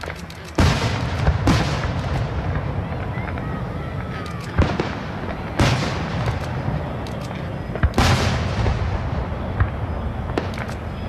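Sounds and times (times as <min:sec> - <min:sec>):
firework shell bursts: 0:00.0 - 0:09.7, 0:10.3 - 0:11.0
firework cracks and pops: 0:00.0 - 0:11.0.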